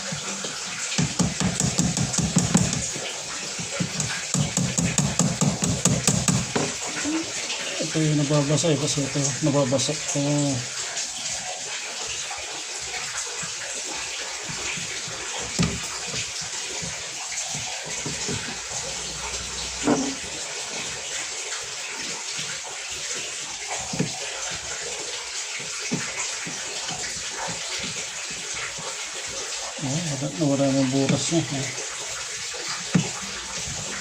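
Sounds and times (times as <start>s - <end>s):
water running: 0.0s - 34.0s.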